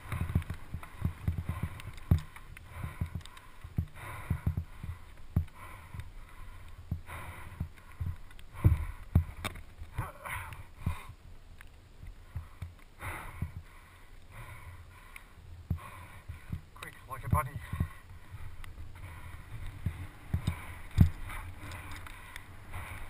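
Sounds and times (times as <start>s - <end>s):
bike knocking and rattling: 0.0s - 11.2s, 15.7s - 23.0s
bike tyres on dirt: 0.0s - 23.0s.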